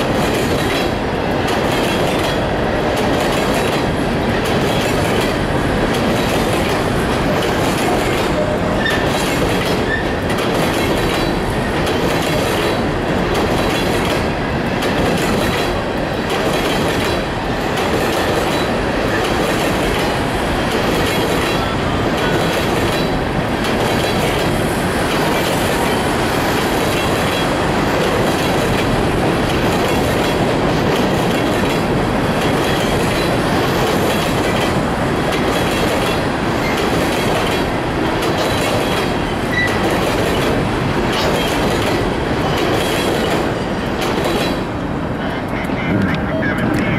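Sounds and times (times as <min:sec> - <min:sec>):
wheels clacking over rail joints: 0:00.0 - 0:44.8
train wheels rumbling on rails: 0:00.0 - 0:46.9.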